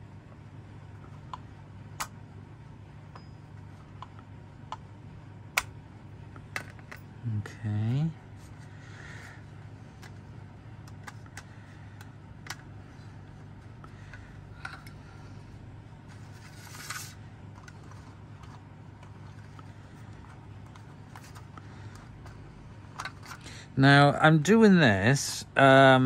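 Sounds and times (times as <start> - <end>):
low hum: 0.0 - 24.4.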